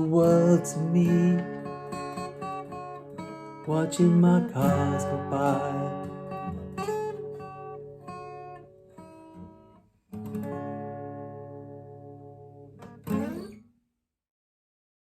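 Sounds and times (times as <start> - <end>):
acoustic guitar playing: 0.0 - 13.8.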